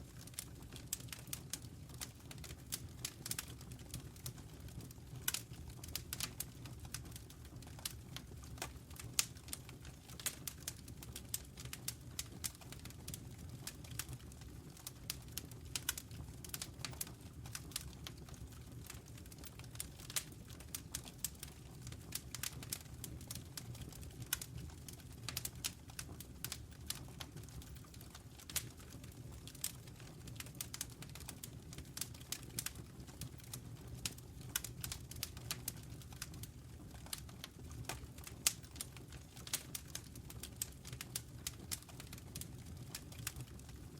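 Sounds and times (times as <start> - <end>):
low rumble of flames: 0.0 - 43.9
wood fire crackling: 0.0 - 43.9.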